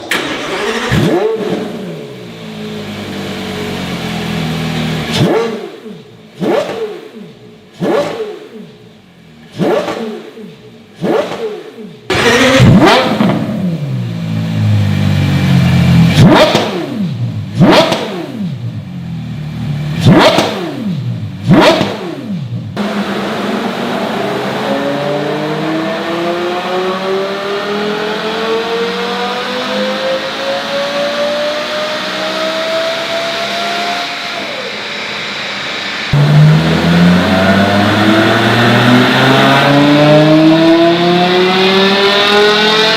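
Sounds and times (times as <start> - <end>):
sports car engine revving: 0.0 - 42.9.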